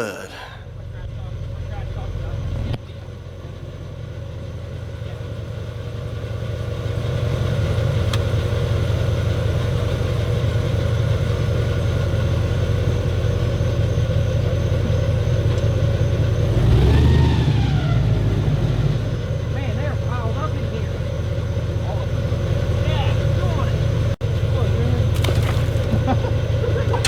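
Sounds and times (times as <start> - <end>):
airboat engine and propeller drone: 0.3 - 27.0.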